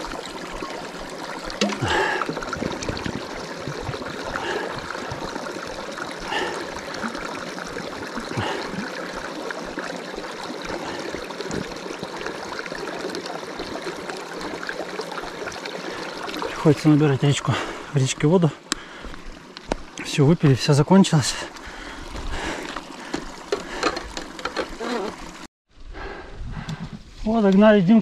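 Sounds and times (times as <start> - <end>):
stream rushing water: 0.0 - 25.5.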